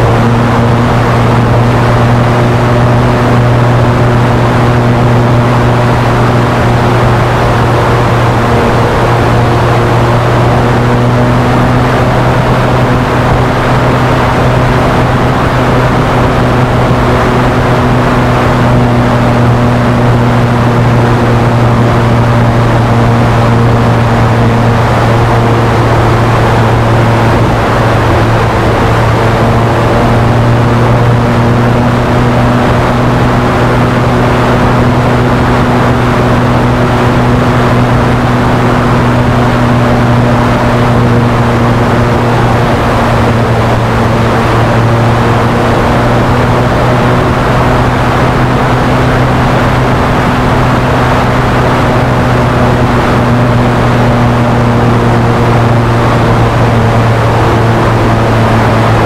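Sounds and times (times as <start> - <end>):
model airplane engine running: 0.0 - 59.0.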